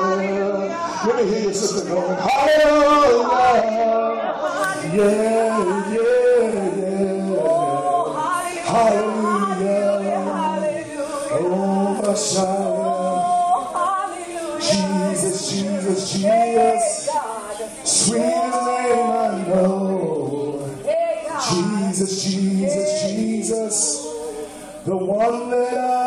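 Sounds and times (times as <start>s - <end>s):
gospel worship singing: 0.0s - 26.0s.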